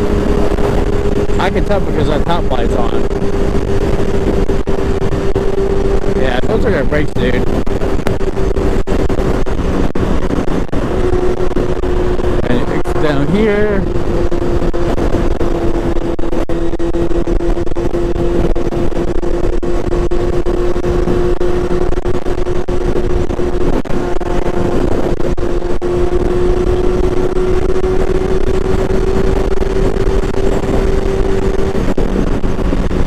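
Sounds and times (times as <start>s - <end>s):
motorcycle engine cruising: 0.0s - 33.0s
wind rush on microphone: 0.0s - 33.0s.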